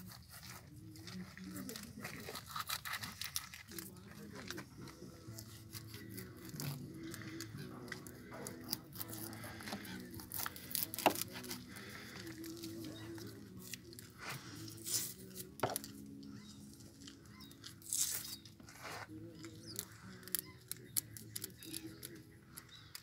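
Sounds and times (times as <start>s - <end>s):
dried fish skin tearing and crackling: 0.0s - 23.0s.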